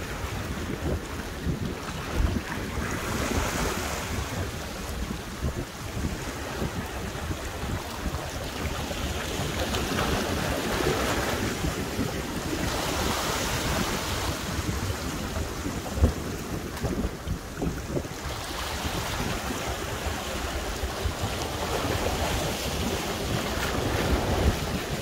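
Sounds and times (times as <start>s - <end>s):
waves surging over rocks: 0.0s - 25.0s
wind buffeting microphone: 0.0s - 25.0s.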